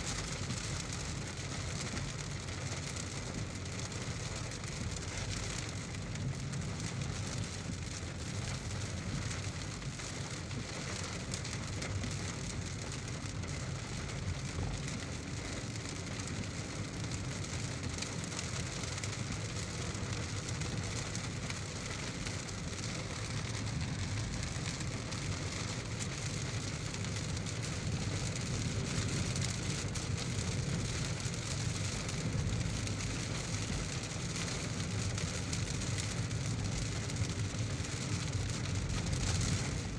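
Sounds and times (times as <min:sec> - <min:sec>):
heavy rain: 0:00.0 - 0:39.9
car driving rumble: 0:00.1 - 0:39.9.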